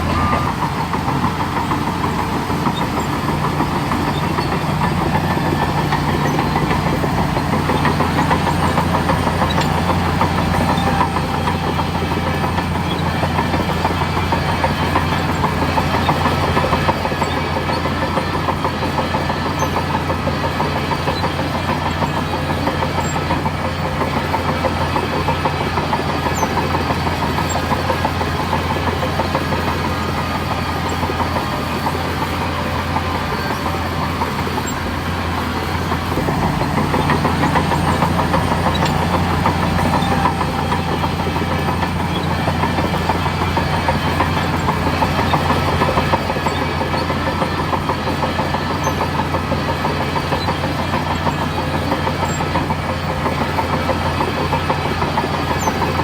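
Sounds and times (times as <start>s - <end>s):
bulldozer diesel engine rattling: 0.0s - 56.0s.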